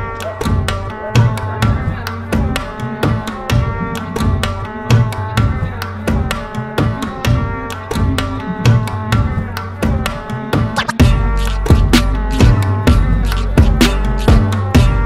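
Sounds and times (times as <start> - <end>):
music with quick drum beat: 0.0 - 15.0.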